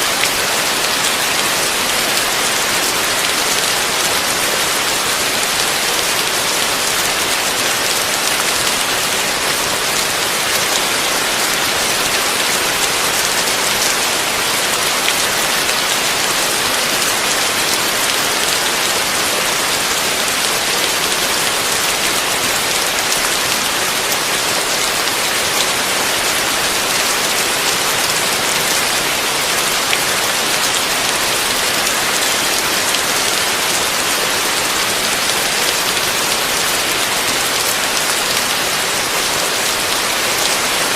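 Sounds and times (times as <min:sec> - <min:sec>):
heavy rain on a roof: 0:00.0 - 0:40.9.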